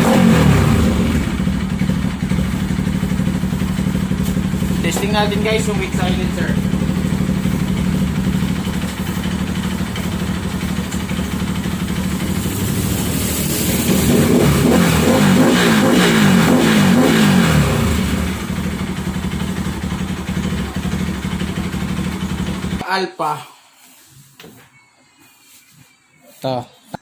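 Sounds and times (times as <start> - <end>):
motorcycle engine revving: 0.0 - 22.8.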